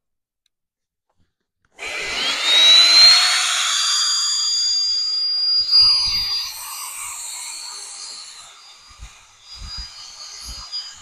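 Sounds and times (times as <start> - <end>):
electric air pump motor whine: 1.8 - 11.0.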